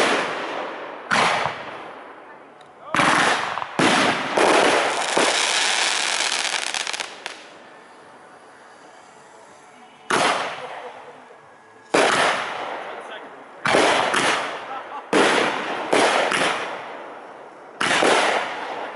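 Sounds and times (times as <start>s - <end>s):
firework crackling: 0.0s - 2.1s, 2.9s - 18.9s.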